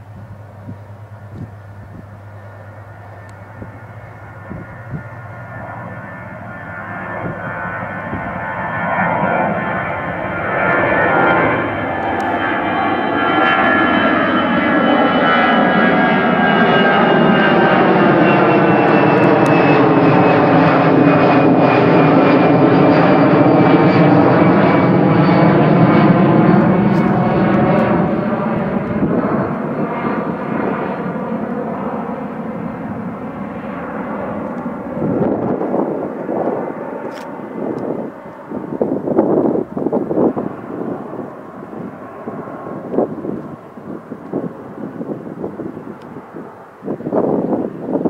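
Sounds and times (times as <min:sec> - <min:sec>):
jet airliner roaring overhead: 0:00.0 - 0:48.0.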